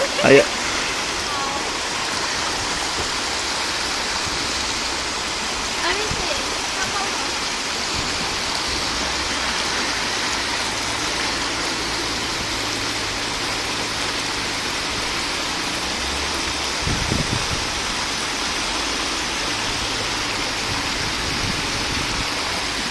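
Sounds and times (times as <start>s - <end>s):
floodwater running across street: 0.0s - 22.9s
heavy rain falling: 0.0s - 22.9s.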